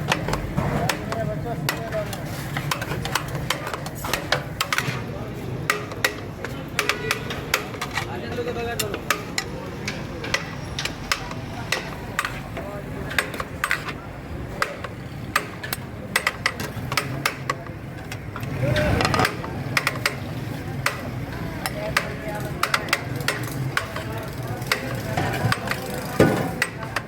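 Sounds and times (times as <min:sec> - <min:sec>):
background chatter: 0:00.0 - 0:27.0
metal utensils and pots clanking: 0:00.0 - 0:27.0.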